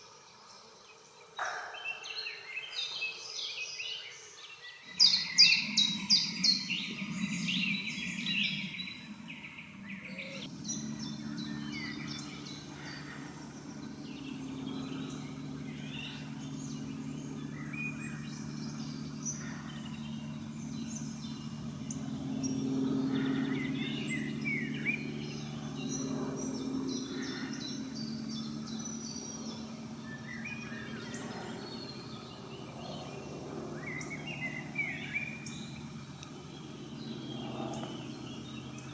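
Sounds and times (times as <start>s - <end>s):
songbirds singing: 0.0s - 38.9s
steady low hum: 4.8s - 38.9s.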